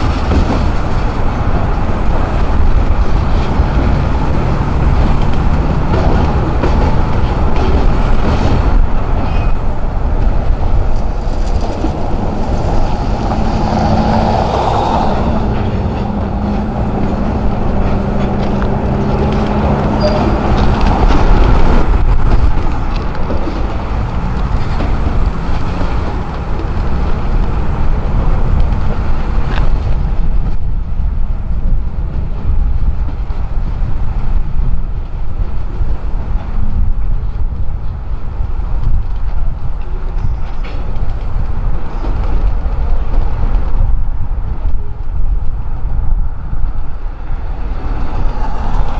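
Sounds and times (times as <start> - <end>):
locomotive diesel hum: 0.0 - 48.9
train cars rumbling on rails: 0.0 - 48.9.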